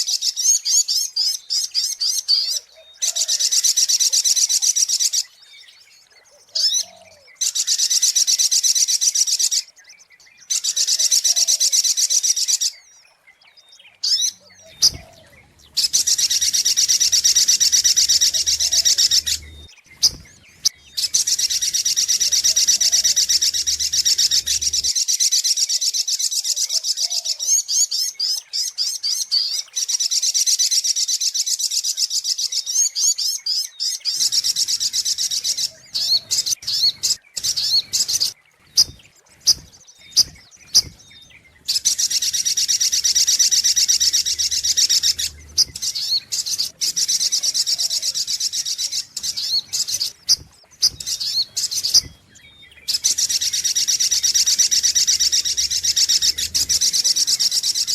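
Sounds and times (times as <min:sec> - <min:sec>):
bird twittering trill: 0:00.0 - 0:57.9.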